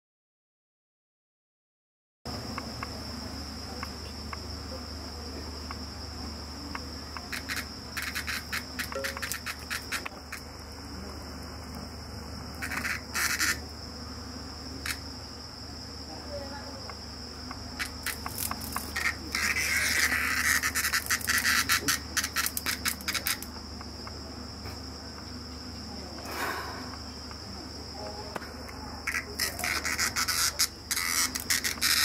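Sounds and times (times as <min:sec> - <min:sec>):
cicada distress buzzing: 0:02.3 - 0:32.0
high insect trill: 0:02.3 - 0:32.0.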